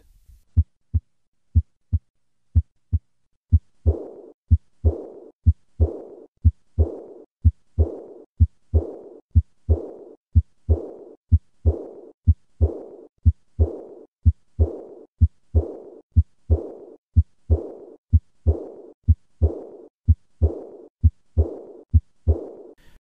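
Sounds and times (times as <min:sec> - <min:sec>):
heartbeat: 0:00.4 - 0:22.8
high-pitched heart murmur: 0:02.6 - 0:22.8.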